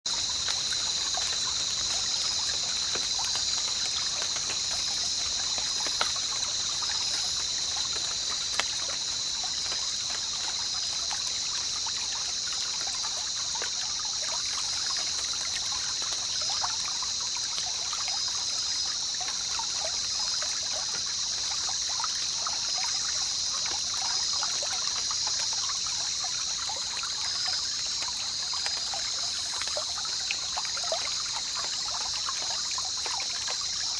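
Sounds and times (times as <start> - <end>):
high-pitched insect chorus: 0.1 - 33.9
river water burbling over stones: 0.1 - 33.9
small water splashes: 0.1 - 33.9.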